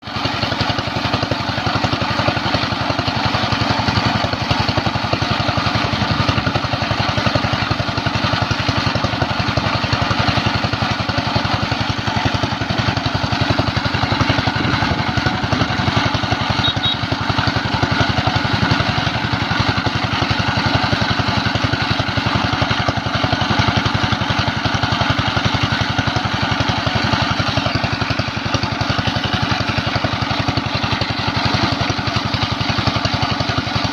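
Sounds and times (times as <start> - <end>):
small diesel engine running: 0.0 - 33.9.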